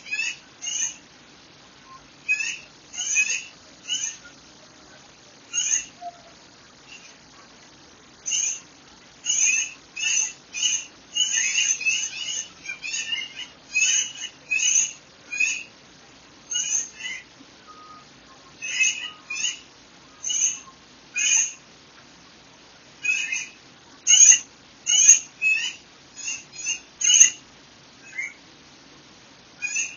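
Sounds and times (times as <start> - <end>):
bird chirping: 0.0 - 1.1, 1.8 - 7.6, 8.2 - 15.8, 16.4 - 21.6, 23.0 - 27.4, 28.0 - 28.4, 29.6 - 29.9.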